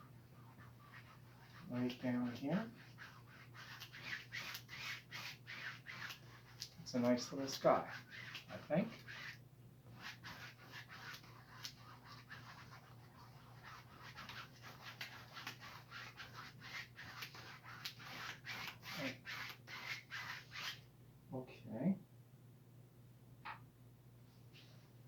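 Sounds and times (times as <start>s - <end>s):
paintbrush swishing on canvas: 0.0s - 20.8s.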